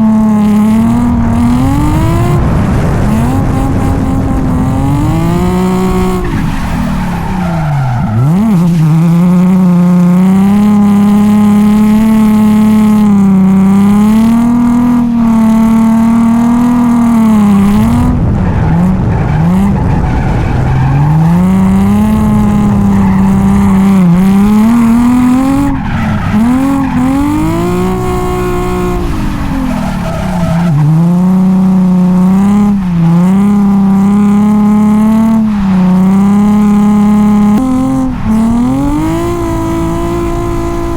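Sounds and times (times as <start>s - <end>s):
car engine revving hard: 0.0s - 40.9s
tyres skidding: 0.0s - 40.9s.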